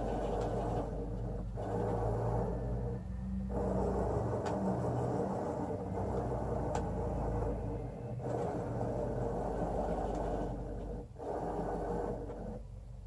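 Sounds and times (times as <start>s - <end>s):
motors humming: 0.0s - 13.0s.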